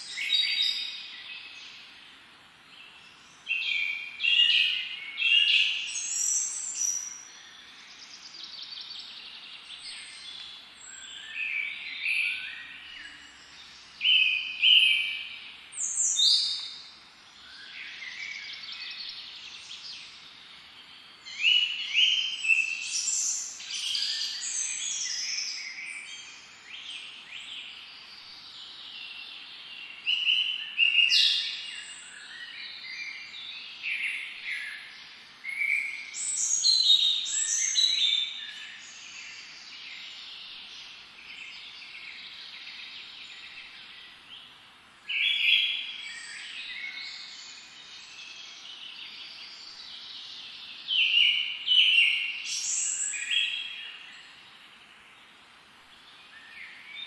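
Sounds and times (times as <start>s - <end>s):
faint steady hiss: 0.0s - 57.0s
songbirds singing: 0.0s - 57.0s.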